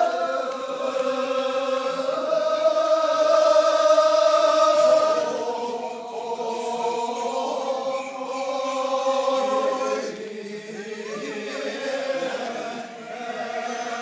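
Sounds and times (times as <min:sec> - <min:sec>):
voices chanting held tones: 0:00.0 - 0:14.0.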